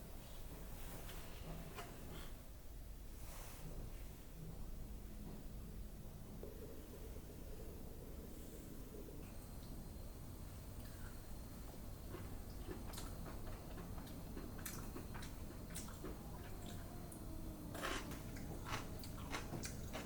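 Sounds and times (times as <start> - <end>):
low steady background hum: 0.0 - 20.0.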